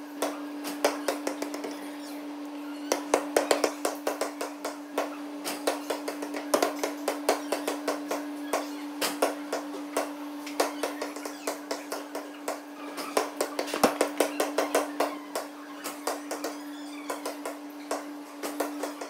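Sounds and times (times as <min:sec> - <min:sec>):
basketballs bouncing on gym floor: 0:00.2 - 0:01.7, 0:02.9 - 0:19.0.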